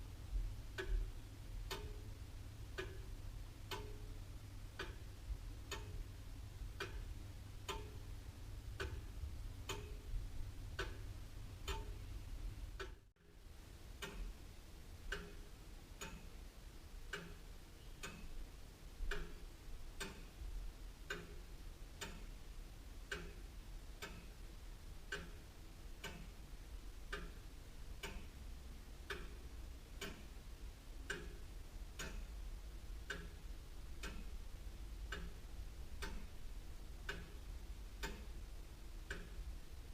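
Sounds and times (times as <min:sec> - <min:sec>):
clock ticking: 0:00.0 - 0:13.3, 0:14.0 - 0:39.9.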